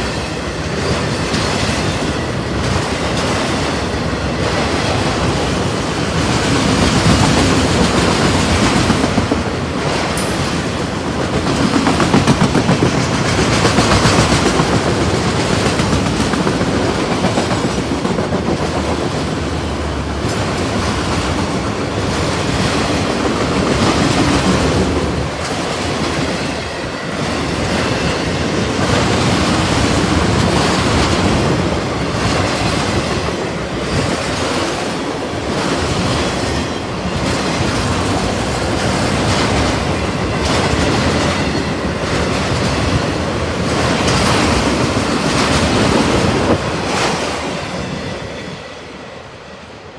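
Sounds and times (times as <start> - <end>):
wheels clacking over rail joints: 0.0 - 48.1
train passing: 0.0 - 49.9.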